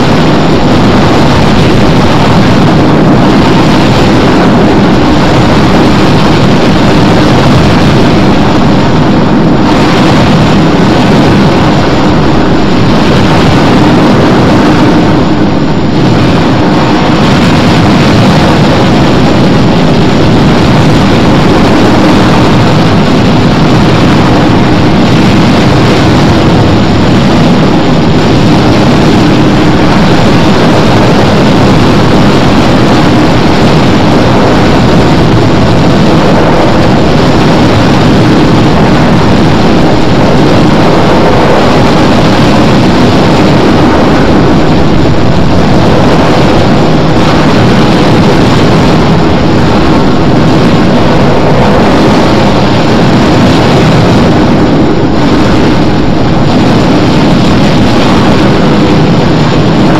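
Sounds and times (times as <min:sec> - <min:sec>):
distorted noise music: 0:00.0 - 0:59.9.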